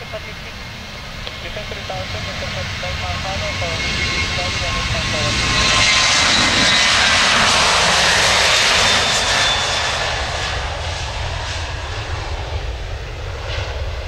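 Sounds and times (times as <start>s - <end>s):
jet airliner taking off: 0.0s - 14.0s.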